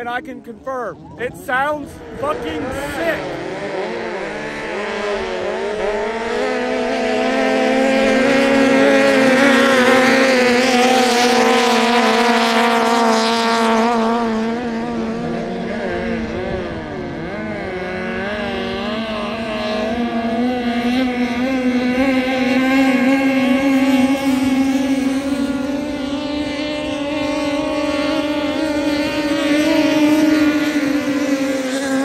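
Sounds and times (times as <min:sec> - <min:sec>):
racing boat engines: 0:00.0 - 0:32.0.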